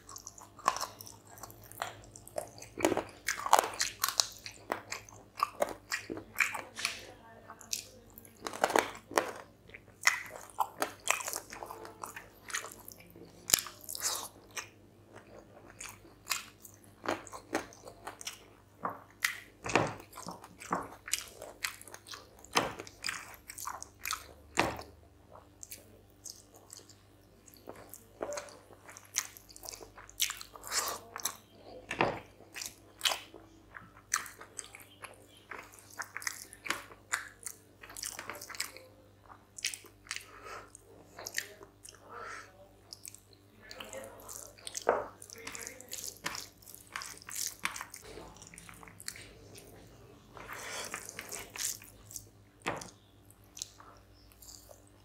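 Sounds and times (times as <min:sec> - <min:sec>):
chewing and wet mouth smacks: 0:00.0 - 0:07.0, 0:07.6 - 0:55.0
fingers mixing food on a plate: 0:00.0 - 0:55.0.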